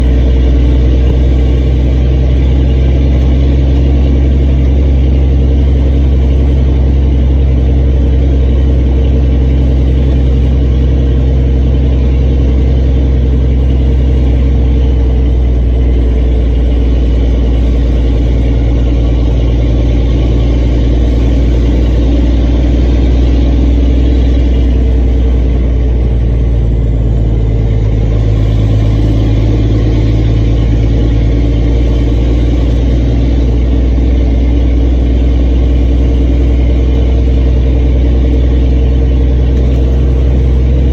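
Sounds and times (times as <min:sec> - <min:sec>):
diesel truck engine droning: 0:00.0 - 0:40.9.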